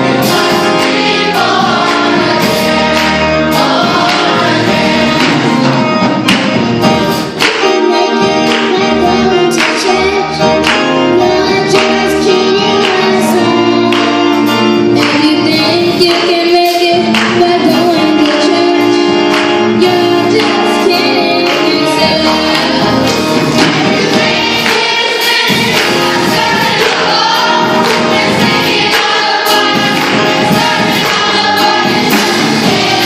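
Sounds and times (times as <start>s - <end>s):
youth choir singing gospel: 0.0s - 6.5s, 7.1s - 33.0s
instrumental accompaniment with beat: 0.0s - 33.0s.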